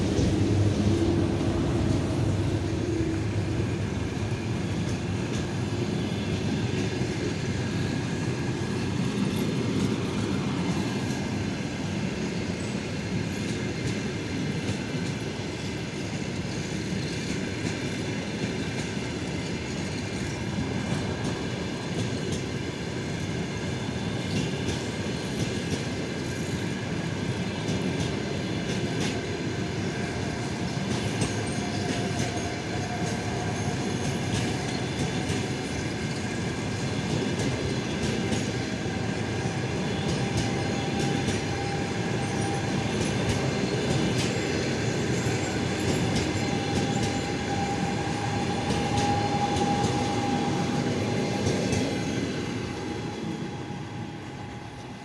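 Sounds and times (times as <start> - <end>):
train coaches rumbling past: 0.0 - 55.0.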